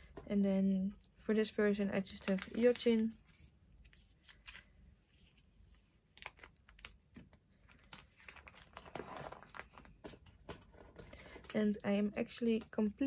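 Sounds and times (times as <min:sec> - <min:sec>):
plastic sleeves rustling: 0:01.3 - 0:13.0.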